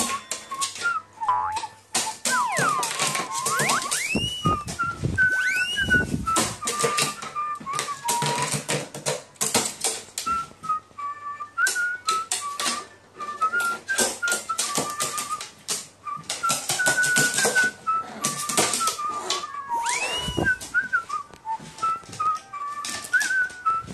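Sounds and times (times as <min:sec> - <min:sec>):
beak tapping plastic toys: 0:00.0 - 0:10.8, 0:11.5 - 0:23.9
whistled melody music: 0:00.0 - 0:23.9.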